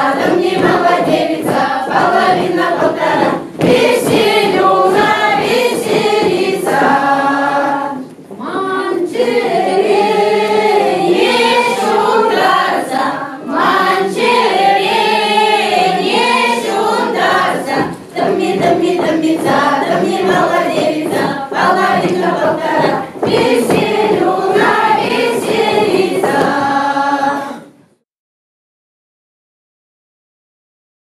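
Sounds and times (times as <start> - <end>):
men and women singing together: 0.0 - 27.8.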